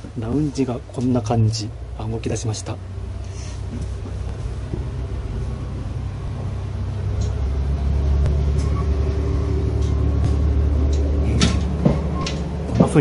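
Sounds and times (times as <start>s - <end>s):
diesel train rumbling: 0.0s - 13.0s.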